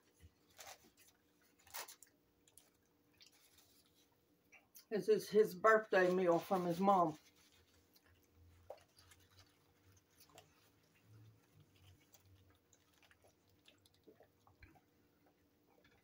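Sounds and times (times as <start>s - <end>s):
chewing food: 0.0s - 4.9s, 7.2s - 16.0s.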